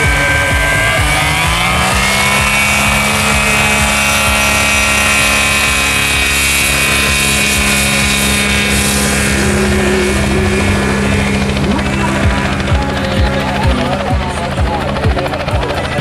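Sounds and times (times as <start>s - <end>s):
propeller drone at takeoff power: 0.0s - 16.0s.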